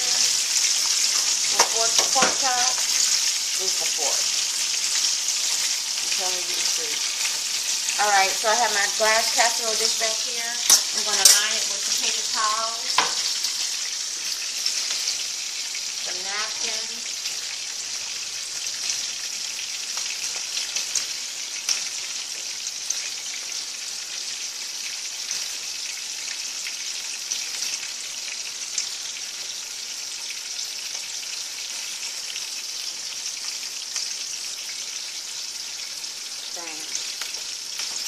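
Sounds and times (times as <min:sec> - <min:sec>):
meat sizzling in hot oil: 0:00.0 - 0:38.0.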